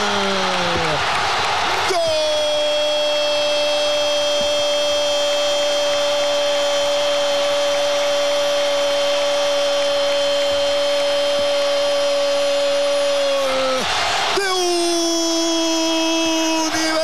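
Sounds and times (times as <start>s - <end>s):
stadium crowd noise: 0.0s - 17.0s.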